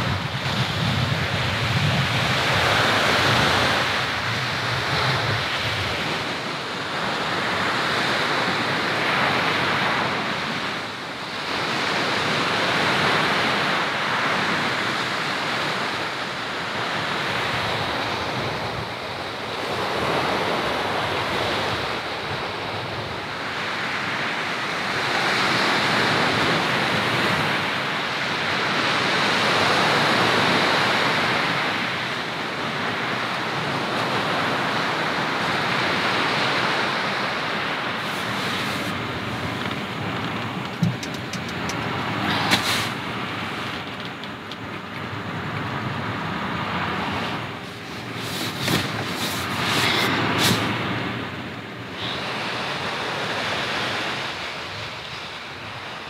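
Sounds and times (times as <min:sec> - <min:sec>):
ocean surf breaking: 0:00.0 - 0:56.0
wind on microphone: 0:00.0 - 0:56.0.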